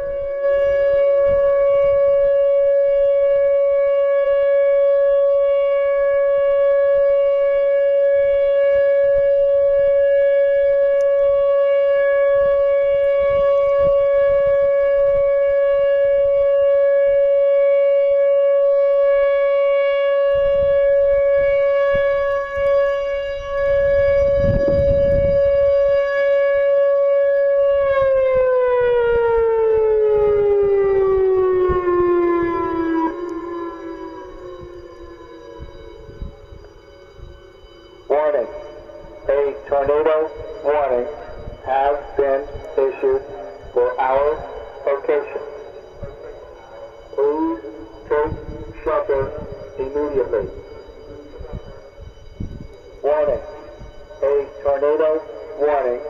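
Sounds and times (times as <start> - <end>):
wind rumble on microphone: 0.0 - 18.1, 18.7 - 32.8, 34.3 - 37.4, 39.0 - 43.9, 47.9 - 54.3
warning siren steady tone: 0.0 - 56.0.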